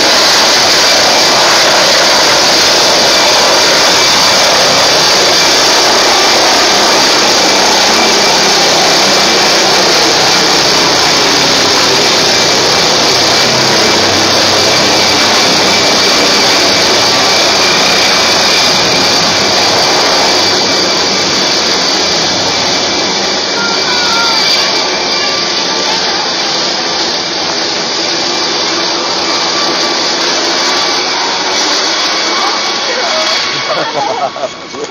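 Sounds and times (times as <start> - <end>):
helicopter turbine and rotor: 0.0 - 34.9
high turbine whine: 0.0 - 34.9.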